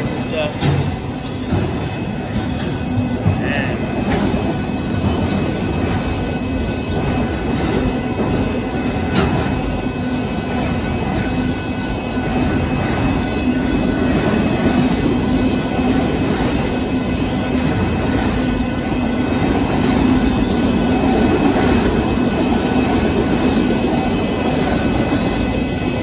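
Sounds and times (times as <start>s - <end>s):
freight train wheels rumbling on rails: 0.0s - 26.0s.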